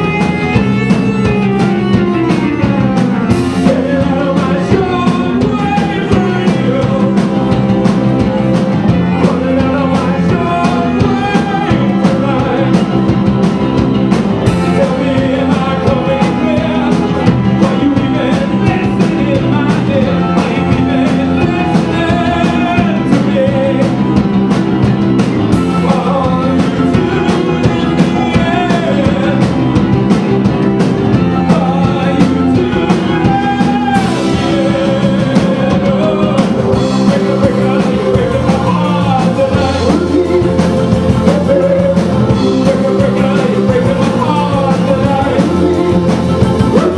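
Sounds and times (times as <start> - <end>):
drums beat: 0.0 - 46.9
rock band playing: 0.0 - 46.9
synth and organ keyboards: 0.0 - 46.9.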